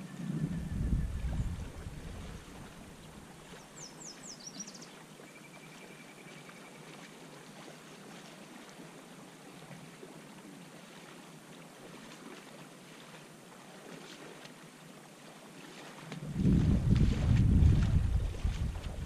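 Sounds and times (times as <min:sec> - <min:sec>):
soft hiss of river water: 0:00.0 - 0:19.0.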